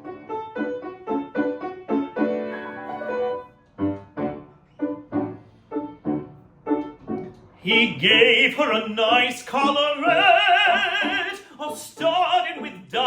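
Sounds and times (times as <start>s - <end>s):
solo piano chords: 0.0s - 13.0s.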